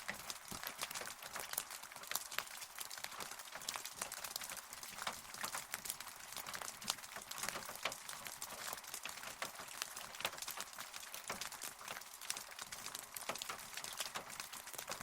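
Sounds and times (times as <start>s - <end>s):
rain falling: 0.0s - 15.0s
raindrop ticks: 0.0s - 15.0s.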